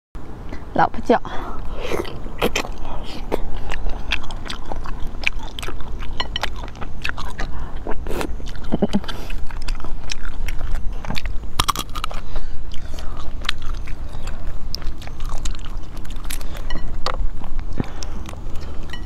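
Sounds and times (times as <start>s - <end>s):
chewing meat with wet smacks: 1.9s - 19.0s.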